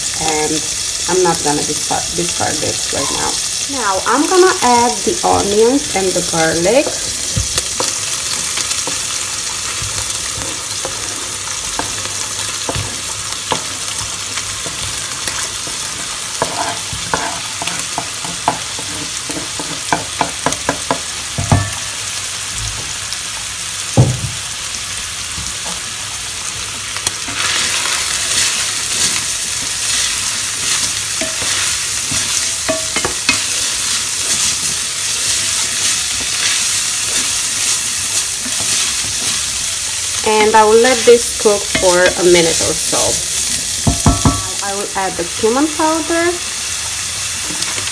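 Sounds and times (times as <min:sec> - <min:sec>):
food sizzling in frying pan: 0:00.0 - 0:47.9.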